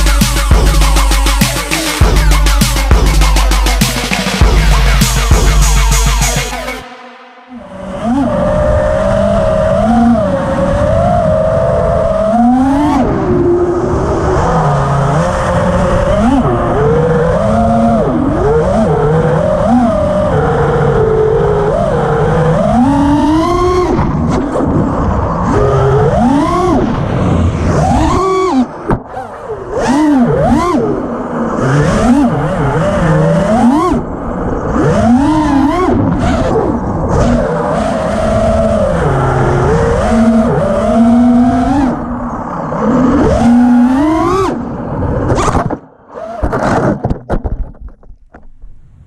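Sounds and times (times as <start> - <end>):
drone motors whining: 0.0 - 46.8.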